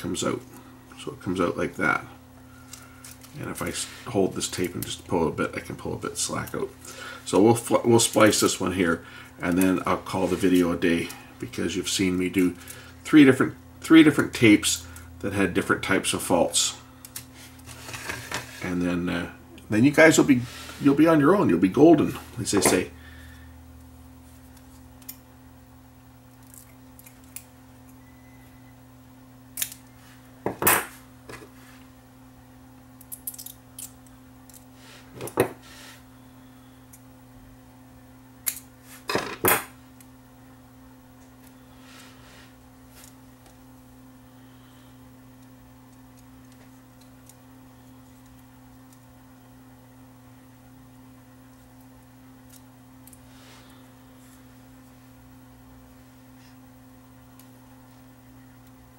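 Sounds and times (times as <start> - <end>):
faint electrical hum: 0.0 - 58.9.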